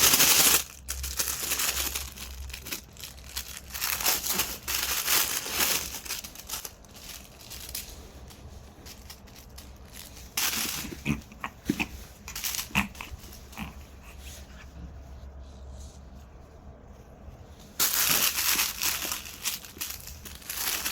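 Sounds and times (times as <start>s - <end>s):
plastic bag crinkling: 0.0s - 14.1s, 17.8s - 20.9s.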